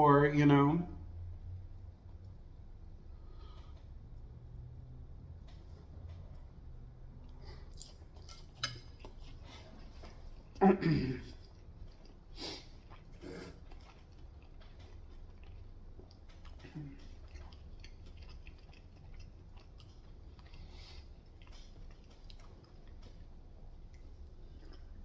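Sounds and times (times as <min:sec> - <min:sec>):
chewing with small crunches: 0:01.6 - 0:25.0.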